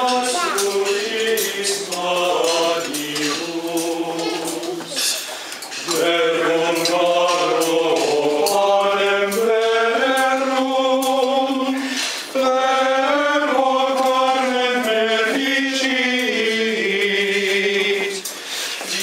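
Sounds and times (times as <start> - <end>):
men singing a hymn in unison: 0.0 - 19.0.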